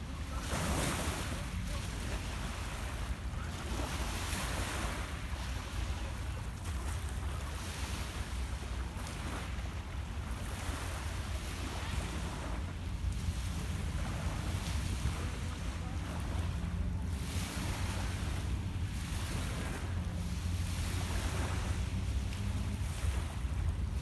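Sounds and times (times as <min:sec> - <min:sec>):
waves lapping on pebble shore: 0:00.0 - 0:24.0
wind rumble on microphone: 0:00.0 - 0:24.0.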